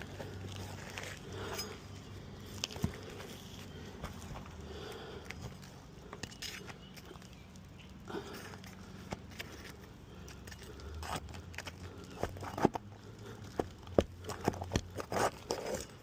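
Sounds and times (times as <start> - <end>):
hands and tools on roof shingles: 0.0 - 16.0
steady low hum: 0.0 - 16.0.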